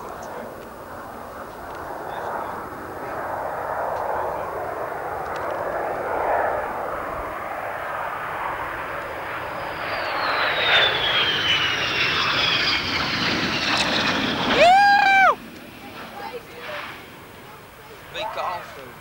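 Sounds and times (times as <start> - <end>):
jet engine whine: 0.0 - 19.0.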